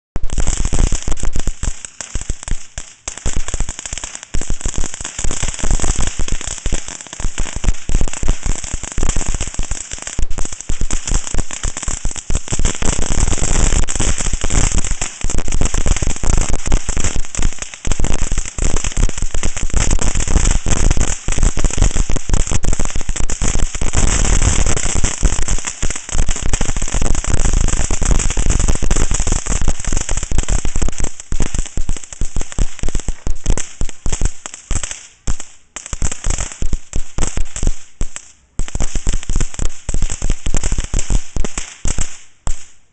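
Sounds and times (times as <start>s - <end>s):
crackling fireworks: 0.2s - 42.9s.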